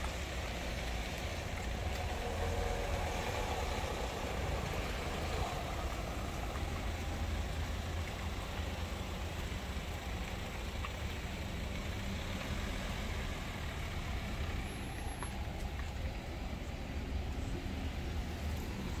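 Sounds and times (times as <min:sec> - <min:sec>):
car engines idling in traffic: 0:00.0 - 0:19.0.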